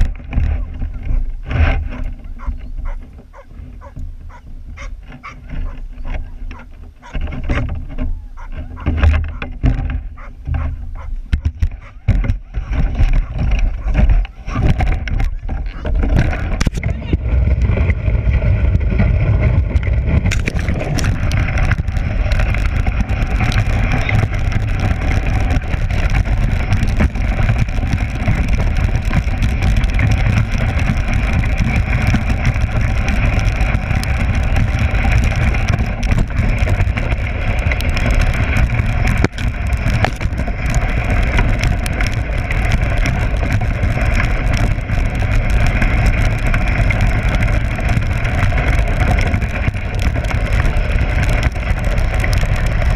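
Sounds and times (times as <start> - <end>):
sled knocking over bumps: 0.0 - 52.9
sled runners rushing over snow: 0.0 - 52.9
wind rumble on microphone: 0.0 - 52.9.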